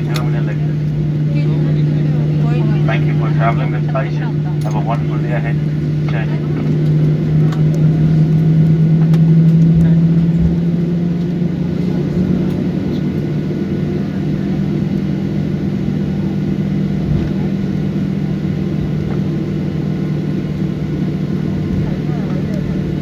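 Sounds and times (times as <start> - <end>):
constant low hum: 0.0 - 23.0
jet engines droning: 0.0 - 23.0.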